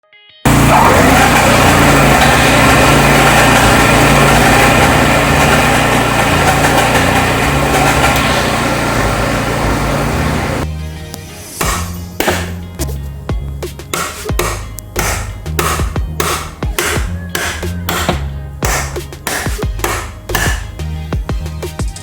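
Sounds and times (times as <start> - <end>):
mower engine droning: 0.5 - 10.7, 11.4 - 21.1.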